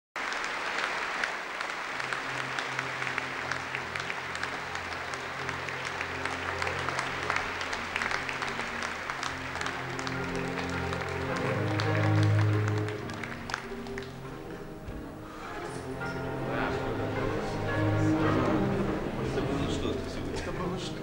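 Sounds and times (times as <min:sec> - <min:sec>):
audience applauding: 0:00.2 - 0:21.0
low sustained musical notes: 0:01.9 - 0:21.0.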